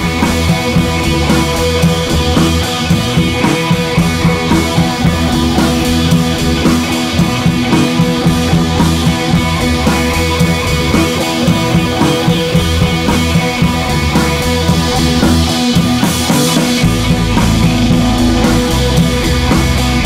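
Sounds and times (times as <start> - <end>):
rock music with drums and guitar: 0.0 - 20.0.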